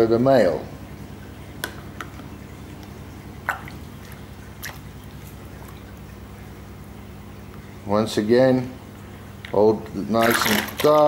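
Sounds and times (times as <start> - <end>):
steady low hum: 0.0 - 11.0
small water splashes and drips: 0.8 - 7.8, 8.9 - 11.0.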